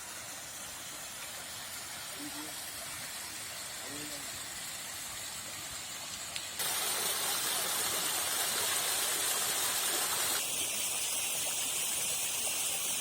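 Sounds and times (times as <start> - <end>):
water pouring down waterfall: 0.0 - 13.0.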